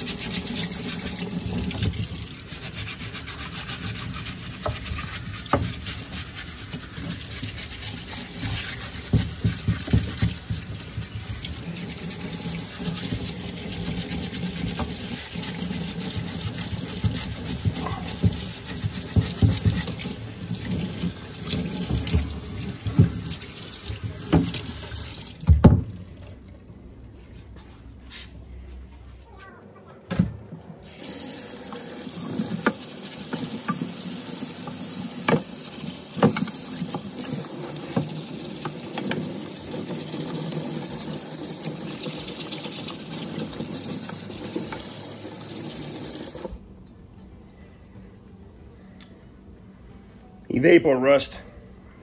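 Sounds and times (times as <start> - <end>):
water running into sink: 0.0 - 26.6, 30.8 - 46.6.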